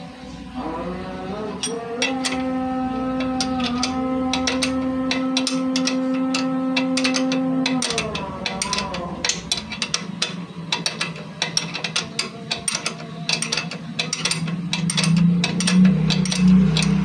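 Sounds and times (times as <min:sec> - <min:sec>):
ratcheting wrench clicking: 0:01.6 - 0:02.6, 0:03.2 - 0:17.0.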